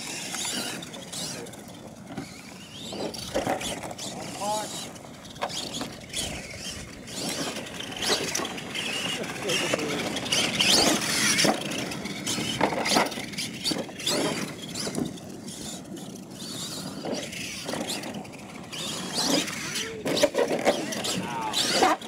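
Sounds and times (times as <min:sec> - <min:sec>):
rc truck motor whining: 0:00.0 - 0:22.0.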